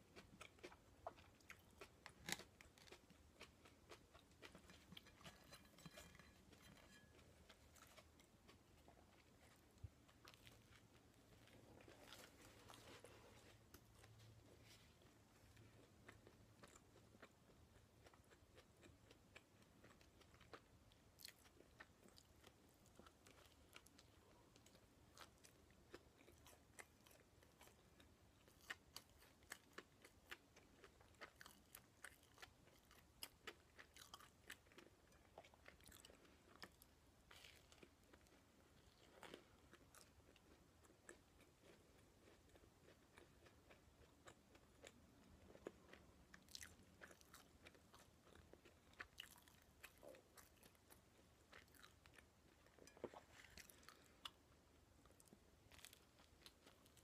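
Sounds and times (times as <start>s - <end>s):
close-up chewing: 0.0s - 57.0s.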